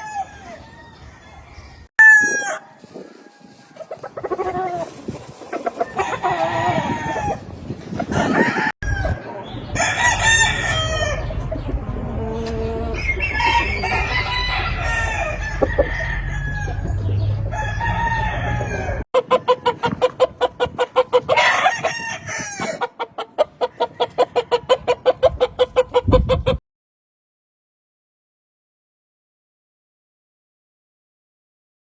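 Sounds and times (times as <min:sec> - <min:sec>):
roosters crowing and clucking: 0:00.0 - 0:26.6.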